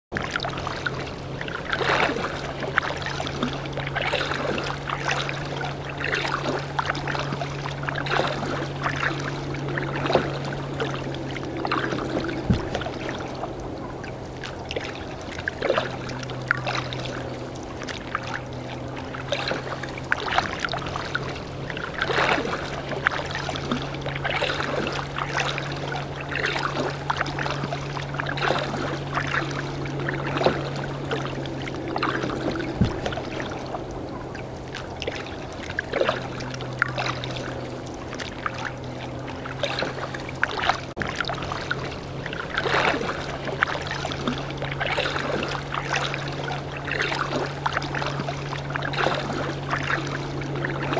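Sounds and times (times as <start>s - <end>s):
paddle splashes: 0.1s - 50.9s
steady low hum: 0.1s - 50.9s
water lapping against hull: 0.1s - 50.9s.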